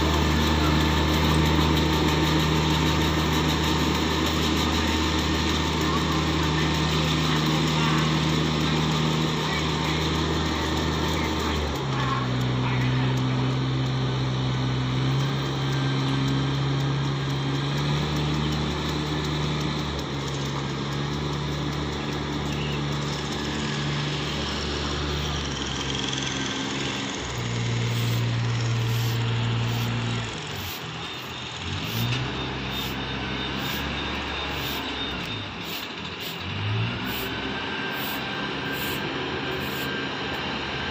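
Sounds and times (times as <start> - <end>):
small engine droning: 0.0 - 40.9.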